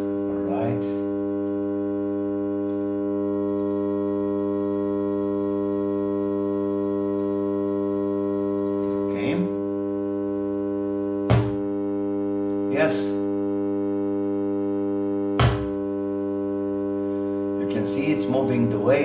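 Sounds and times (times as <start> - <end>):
steady electronic buzz: 0.0 - 19.0.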